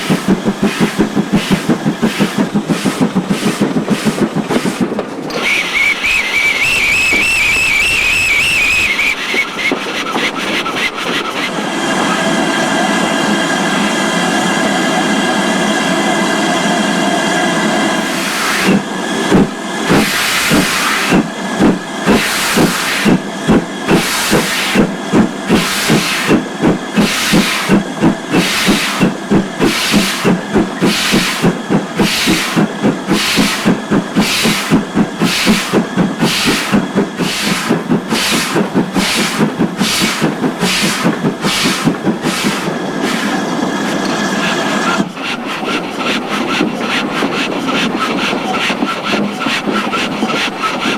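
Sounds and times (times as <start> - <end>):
steam hiss: 0.0 - 12.1, 16.5 - 50.9
steam locomotive chuffing: 0.0 - 50.9.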